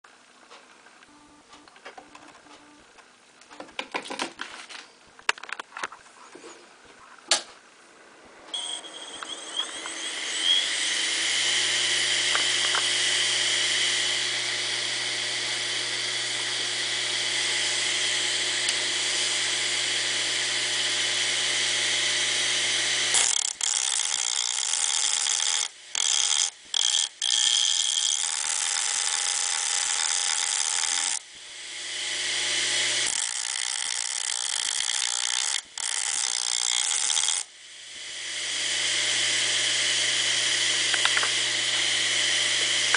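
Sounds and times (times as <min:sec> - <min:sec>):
grinder motor whining: 0:08.5 - 0:42.9.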